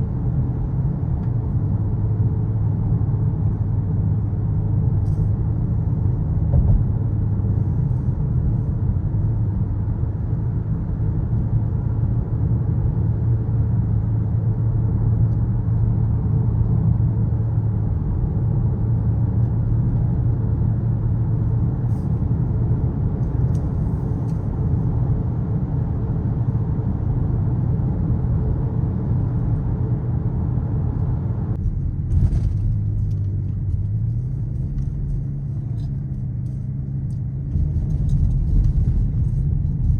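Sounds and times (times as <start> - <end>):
car engine droning: 0.0 - 39.9
road rumble: 0.0 - 39.9.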